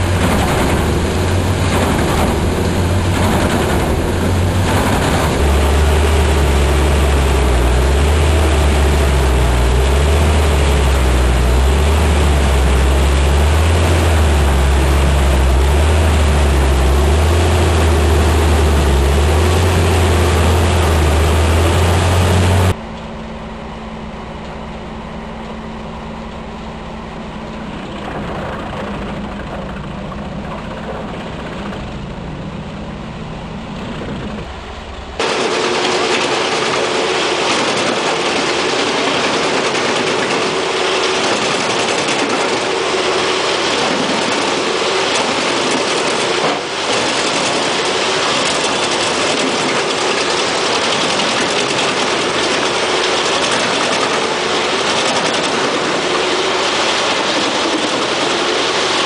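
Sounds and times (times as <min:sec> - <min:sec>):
wood chipper droning: 0:00.0 - 0:59.0.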